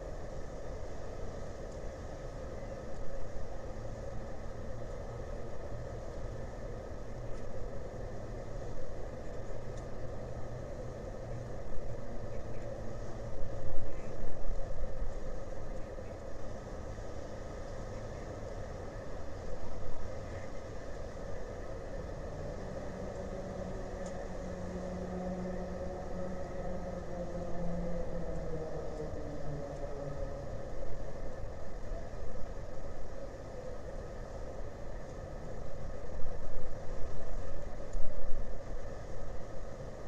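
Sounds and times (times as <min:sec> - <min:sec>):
low engine drone: 0:00.0 - 0:40.0.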